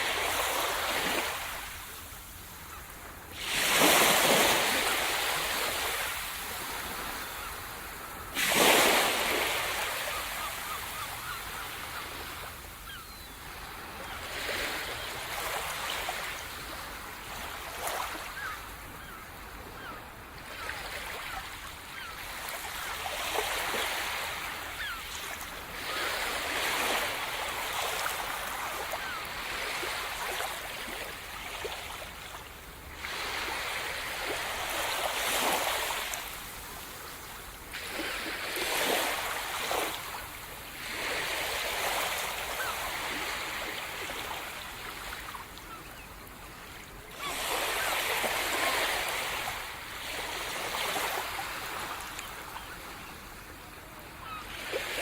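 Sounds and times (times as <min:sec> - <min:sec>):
waves breaking on shore: 0:00.0 - 0:46.1, 0:46.7 - 0:55.0.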